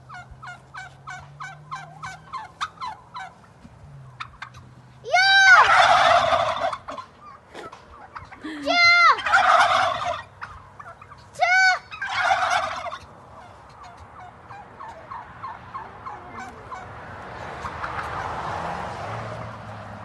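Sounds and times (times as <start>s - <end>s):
turkeys gobbling: 0.0s - 18.4s.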